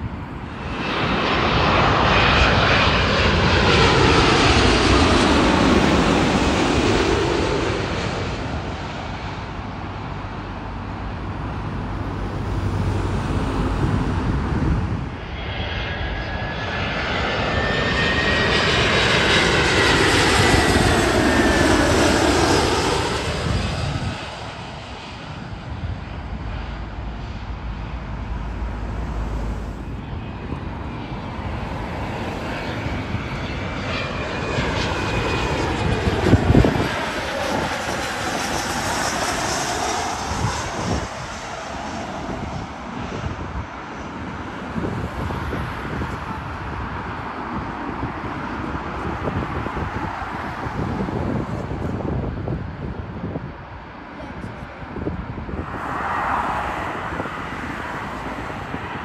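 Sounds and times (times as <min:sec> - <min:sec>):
another aircraft whine: 0:00.0 - 0:59.0
jet airliner passing overhead: 0:00.0 - 0:59.0.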